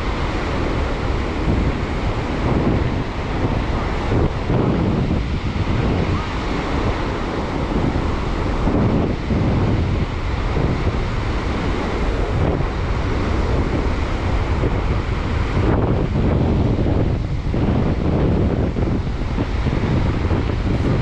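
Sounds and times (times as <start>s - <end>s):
surf breaking on shore: 0.0s - 21.0s
wind buffeting microphone: 0.0s - 21.0s.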